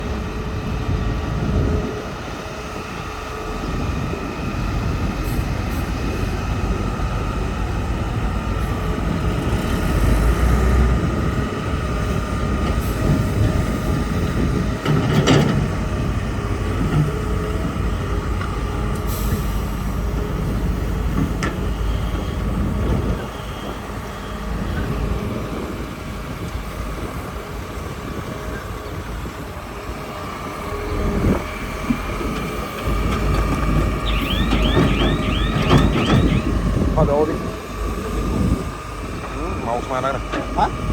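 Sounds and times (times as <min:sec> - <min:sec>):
excavator diesel rumble: 0:00.0 - 0:40.9.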